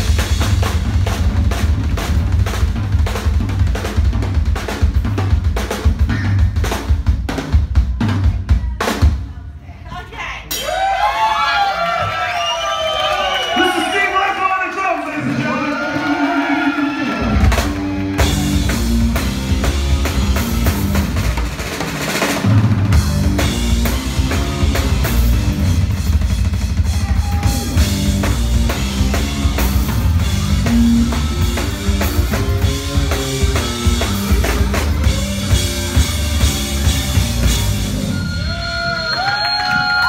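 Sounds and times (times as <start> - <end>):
live rock band playing: 0.0 - 9.2, 15.2 - 40.0.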